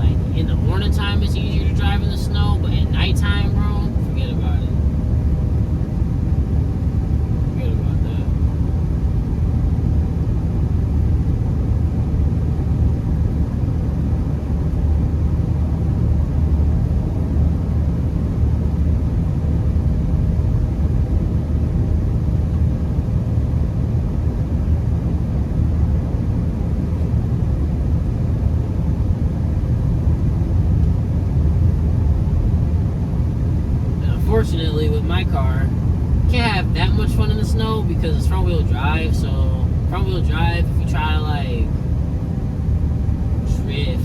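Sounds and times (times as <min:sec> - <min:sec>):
road and engine rumble inside car: 0:00.0 - 0:44.0.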